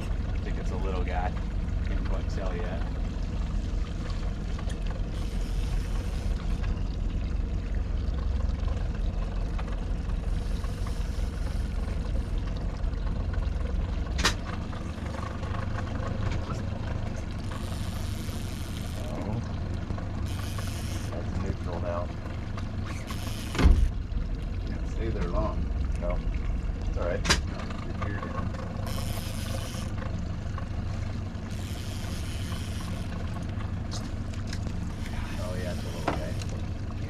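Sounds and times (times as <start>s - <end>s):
outboard motor humming: 0.0s - 37.0s.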